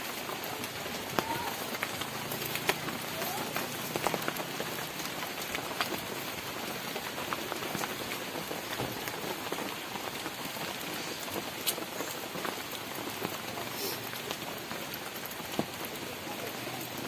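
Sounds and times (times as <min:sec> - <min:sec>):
raindrops ticking on umbrella: 0:00.0 - 0:17.0
steady rain hiss: 0:00.0 - 0:17.0.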